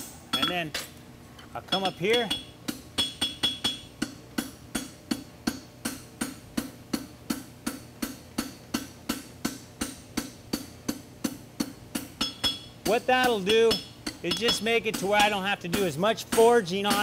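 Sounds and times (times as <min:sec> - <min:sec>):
hammer ringing on anvil: 0:01.7 - 0:07.1, 0:07.7 - 0:17.0.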